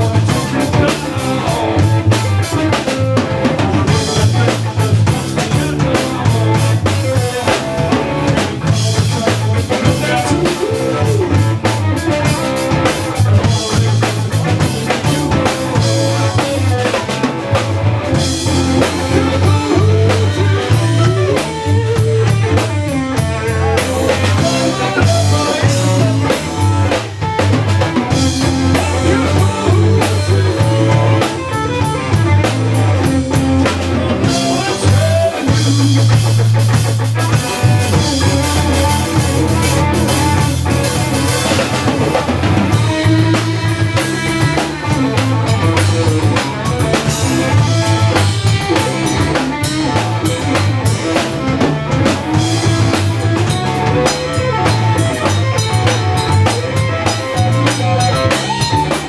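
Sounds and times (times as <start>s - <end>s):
bass guitar: 0.0s - 59.0s
drum kit steady beat: 0.0s - 59.0s
electric guitar: 0.0s - 59.0s.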